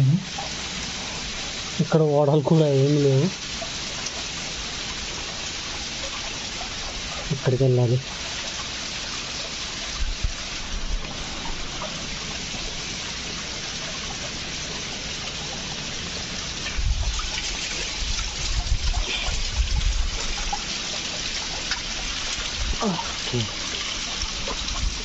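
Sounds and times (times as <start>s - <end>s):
water trickling over rock: 0.0s - 25.0s.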